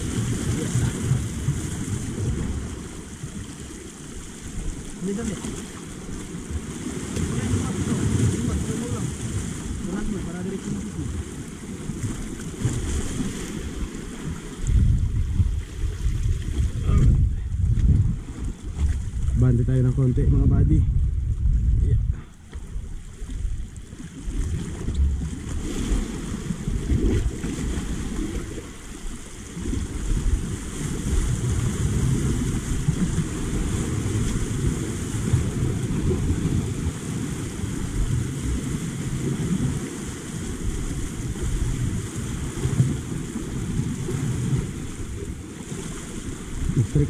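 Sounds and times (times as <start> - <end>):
waves washing against rocks: 0.0 - 47.0
wind on microphone: 0.0 - 47.0.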